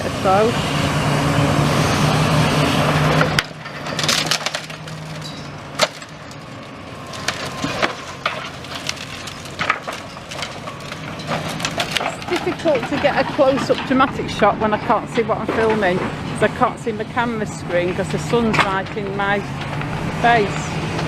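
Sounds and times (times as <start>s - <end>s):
debris cracking and clattering: 2.8s - 21.0s.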